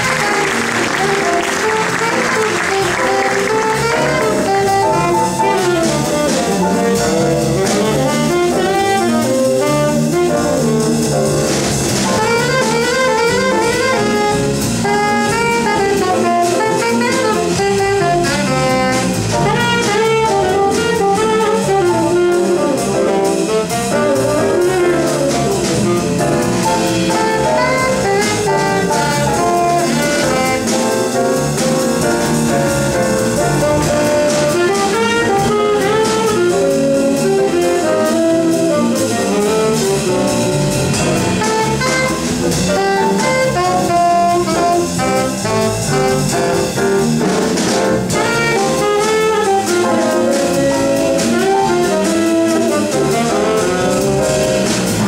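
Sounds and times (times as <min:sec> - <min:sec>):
jazz combo playing: 0:00.0 - 0:55.0.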